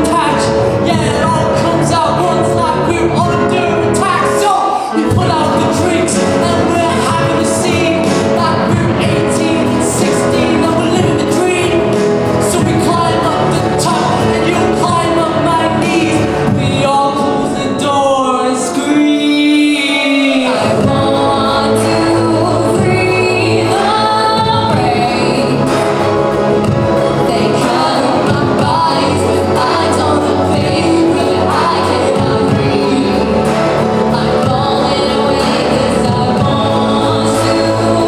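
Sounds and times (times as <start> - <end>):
layered sung vocals: 0.0 - 38.0
pop song with orchestral backing: 0.0 - 38.0.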